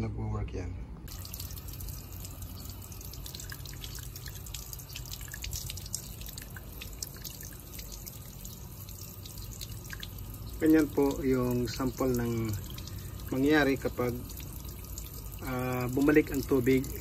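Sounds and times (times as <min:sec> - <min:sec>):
steady low hum: 0:00.0 - 0:17.0
water dripping and splattering: 0:01.1 - 0:17.0.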